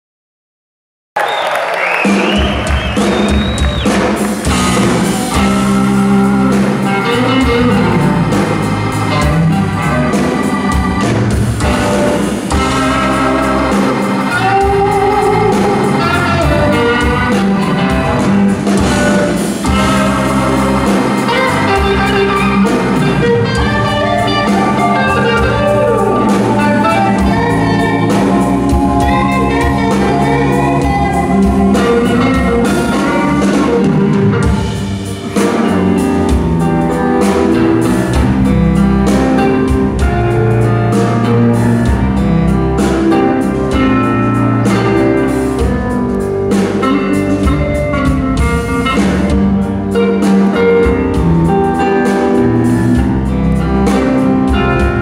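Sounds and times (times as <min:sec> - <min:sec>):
drum kit: 0:01.2 - 0:55.0
electric guitar lead: 0:02.0 - 0:55.0
sustained backing notes: 0:02.4 - 0:55.0.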